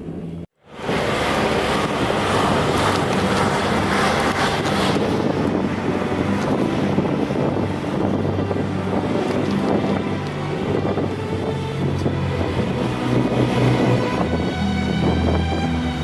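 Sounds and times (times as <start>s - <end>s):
vehicle running: 0.0s - 16.0s
wind noise on microphone: 0.0s - 16.0s.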